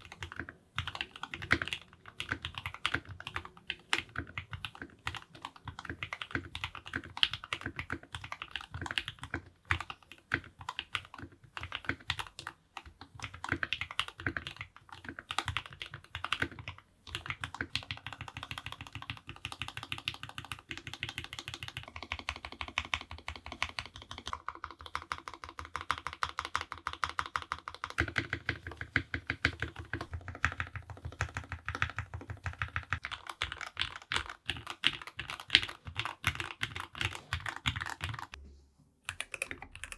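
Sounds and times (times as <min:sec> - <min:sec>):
mechanical keyboard typing: 0:00.0 - 0:38.4, 0:39.1 - 0:39.9.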